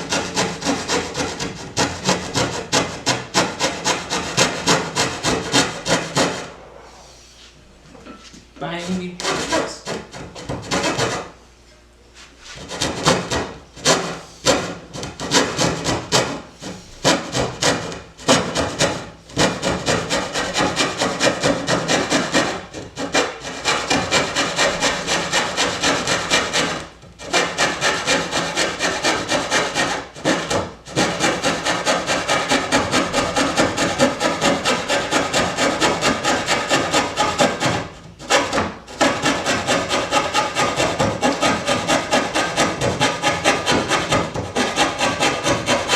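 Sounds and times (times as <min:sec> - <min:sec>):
hand saw cutting wood: 0:00.0 - 0:06.6, 0:08.8 - 0:11.4, 0:12.5 - 0:45.9.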